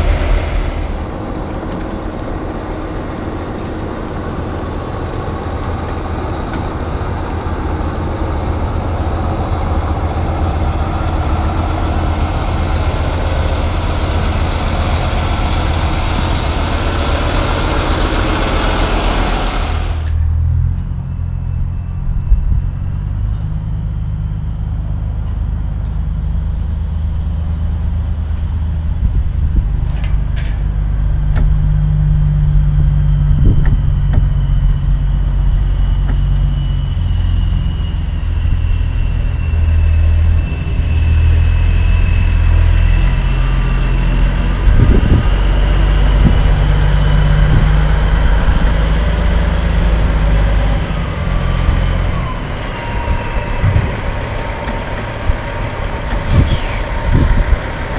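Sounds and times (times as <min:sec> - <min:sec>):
faint high whine: 0:00.0 - 0:57.6
diesel truck engine rumbling: 0:00.0 - 0:57.9.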